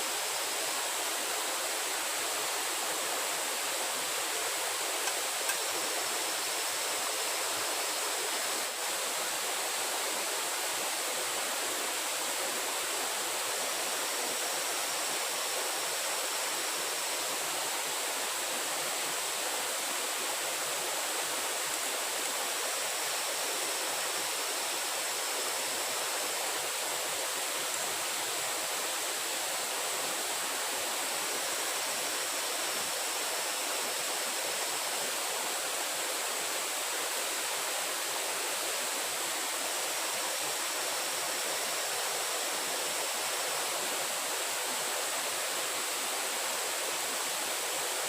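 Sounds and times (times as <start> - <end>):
running water rushing: 0.0 - 48.0.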